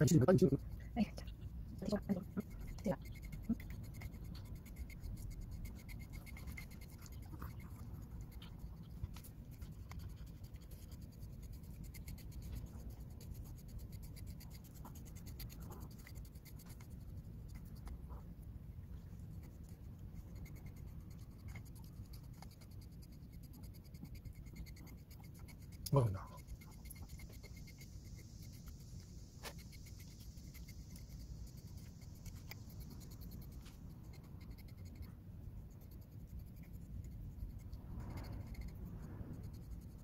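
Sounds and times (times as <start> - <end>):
comb scratching through dog fur: 0.0 - 18.4, 19.0 - 40.0.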